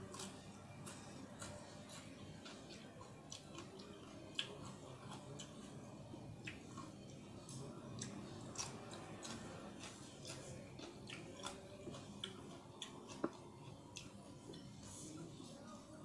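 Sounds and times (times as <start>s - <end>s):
person chewing: 0.0s - 5.8s, 6.4s - 15.2s.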